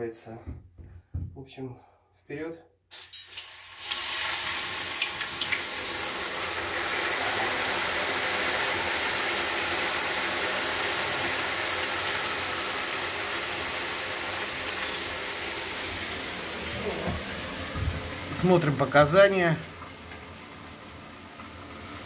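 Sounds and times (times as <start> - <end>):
steam hissing: 3.0 - 22.0.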